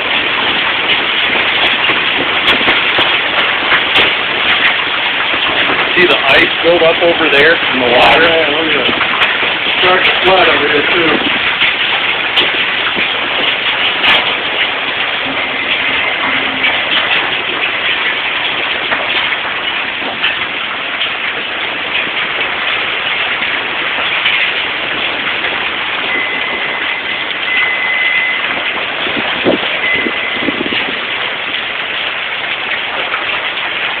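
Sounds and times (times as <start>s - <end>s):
hail impacts knocking: 0.0s - 34.0s
heavy rain and hail pelting: 0.0s - 34.0s.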